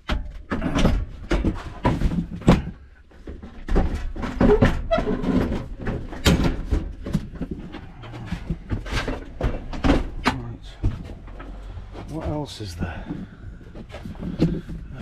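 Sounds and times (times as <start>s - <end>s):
tools knocking and clunking: 0.0s - 15.0s.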